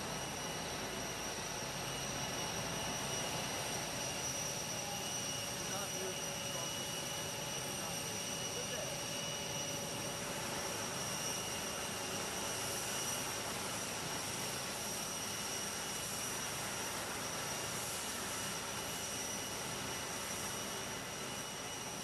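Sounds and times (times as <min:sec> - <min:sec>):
jet turbine whine: 0:00.0 - 0:22.0.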